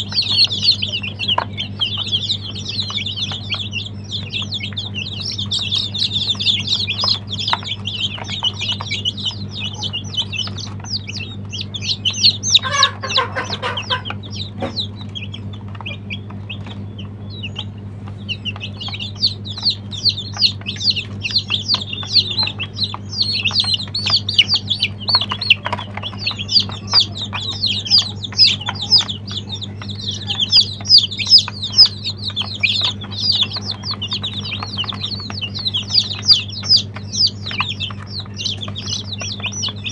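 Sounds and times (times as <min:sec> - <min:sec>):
baby chicks peeping: 0:00.0 - 0:39.9
lower bird call: 0:00.0 - 0:39.9
steady low hum: 0:00.0 - 0:39.9.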